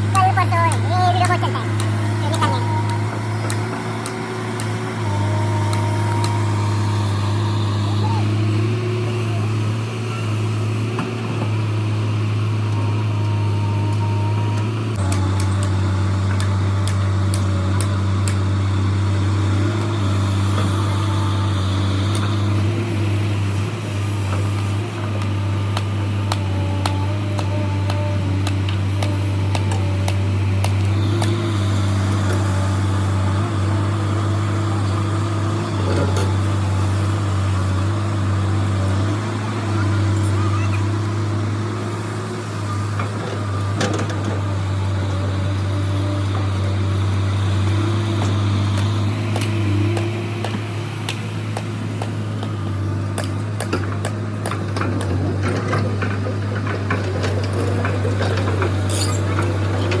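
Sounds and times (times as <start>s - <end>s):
diesel engine droning: 0.0s - 60.0s.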